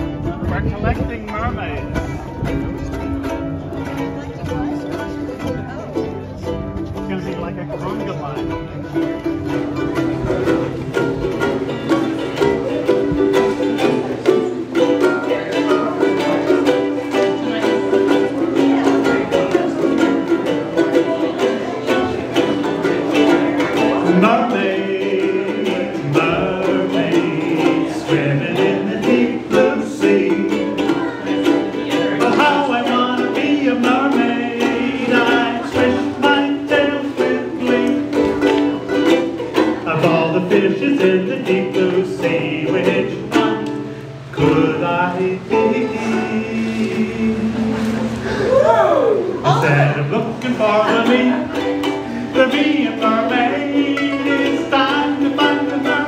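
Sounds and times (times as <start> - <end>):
ukuleles strummed: 0.0 - 56.0
voices singing along: 9.2 - 56.0.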